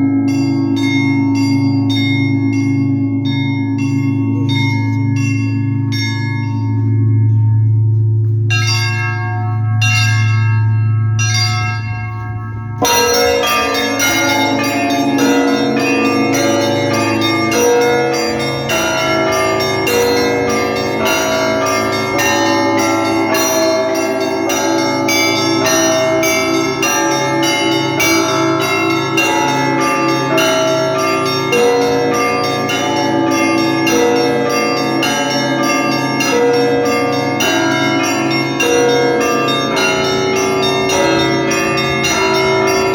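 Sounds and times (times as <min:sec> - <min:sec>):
church bells pealing: 0:00.0 - 0:42.9
large bell humming: 0:00.0 - 0:42.9
small bells ringing: 0:00.0 - 0:42.9.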